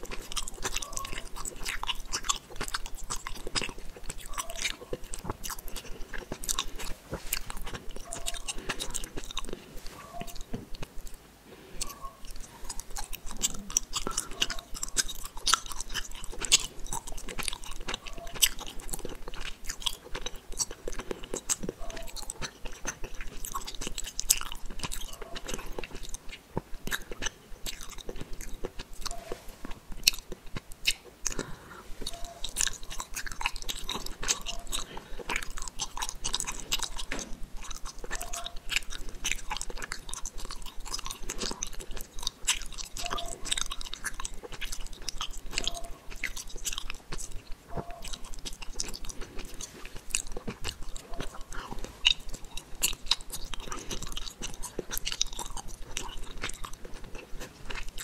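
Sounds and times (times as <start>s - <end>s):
chewing gummy candy: 0.0s - 58.0s.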